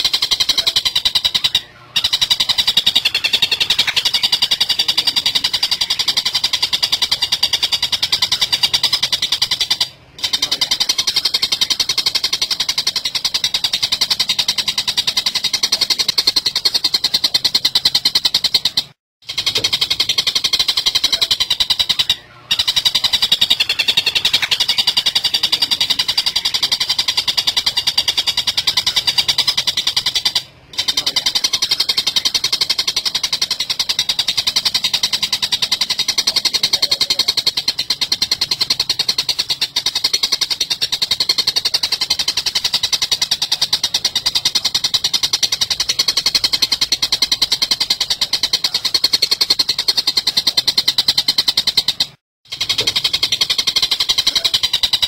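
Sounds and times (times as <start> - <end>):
bird chattering high notes: 0.0 - 55.0.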